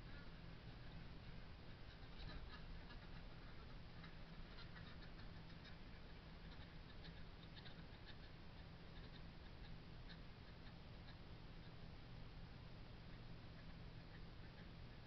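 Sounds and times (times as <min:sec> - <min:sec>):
small ticks: 0:00.0 - 0:11.9, 0:13.0 - 0:15.0
steady low hum: 0:00.0 - 0:15.0.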